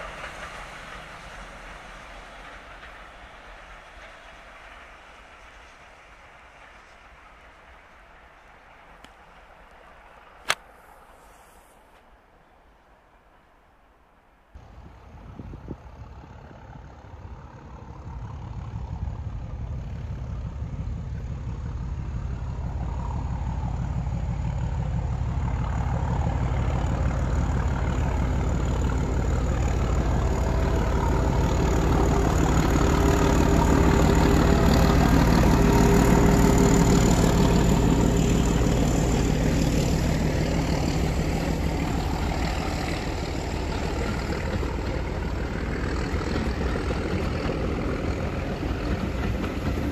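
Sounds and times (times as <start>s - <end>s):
train passing: 0.0s - 49.9s.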